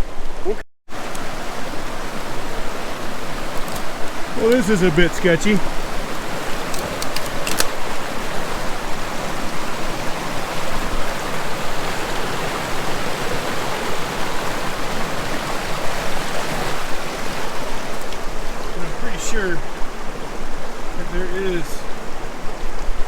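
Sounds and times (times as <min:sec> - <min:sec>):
mountain stream rushing over rocks: 0:00.0 - 0:23.0.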